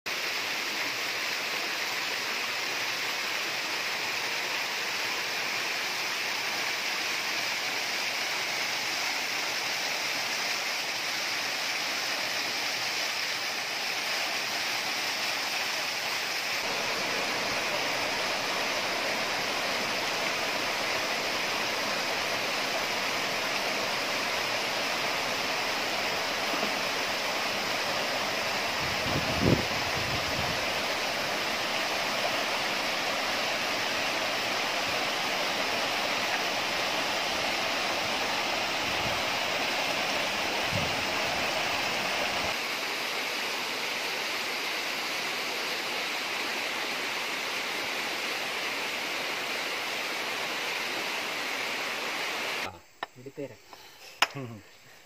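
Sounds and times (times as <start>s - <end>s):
water rushing down waterfall: 0.1s - 52.7s.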